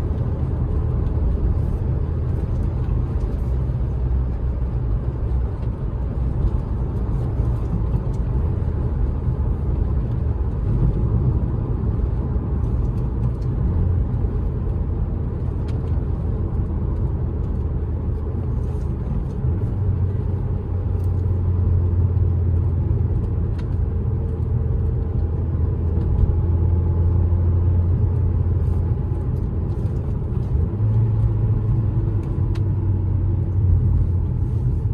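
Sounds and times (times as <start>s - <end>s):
car engine drone: 0.0s - 34.9s.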